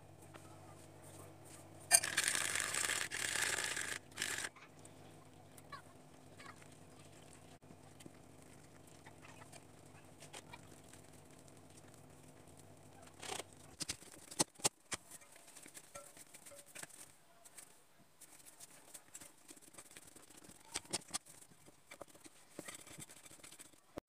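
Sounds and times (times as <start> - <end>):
hands kneading dough: 3.7 - 24.0.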